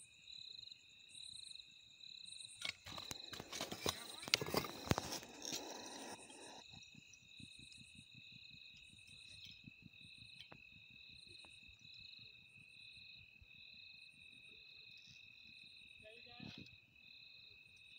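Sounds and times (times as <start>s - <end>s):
crickets trilling: 0.0s - 17.9s
short high cricket chirp: 0.0s - 17.9s.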